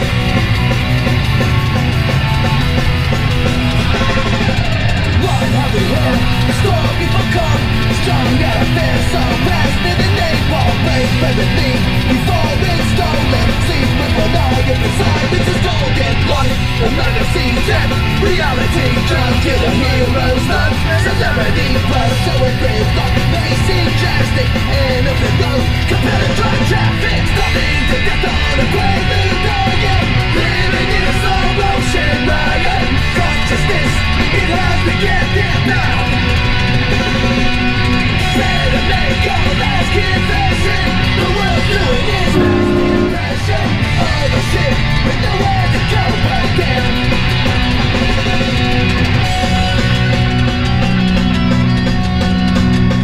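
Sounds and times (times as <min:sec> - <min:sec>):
guitar rock music: 0:00.0 - 0:53.0.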